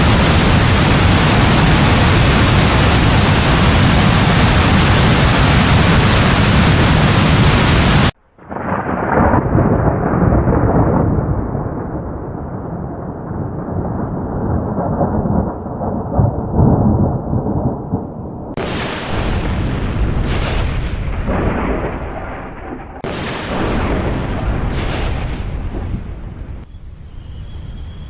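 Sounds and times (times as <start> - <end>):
heavy rain pouring: 0.0 - 24.8
deep rolling thunder: 0.0 - 28.0.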